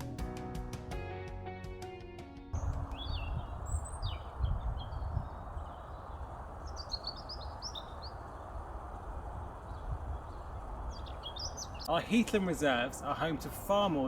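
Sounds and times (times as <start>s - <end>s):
outdoor background hiss: 2.6s - 14.0s
small birds chirping: 2.6s - 14.0s.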